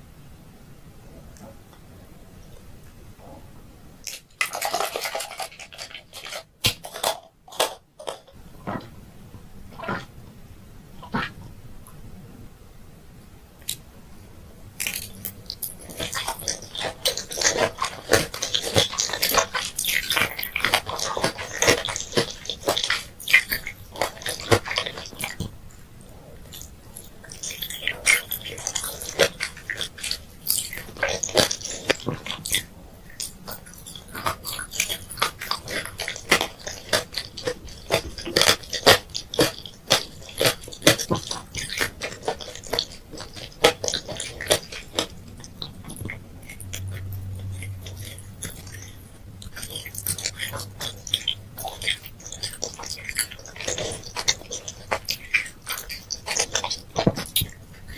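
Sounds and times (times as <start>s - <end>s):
candy crunching while chewed: 4.0s - 8.4s, 14.8s - 57.9s.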